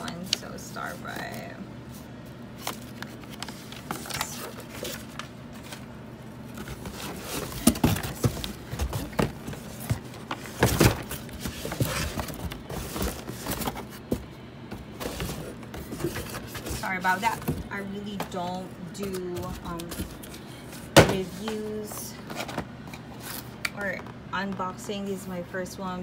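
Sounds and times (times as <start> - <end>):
paper and cardboard rustling: 0.1 - 22.6.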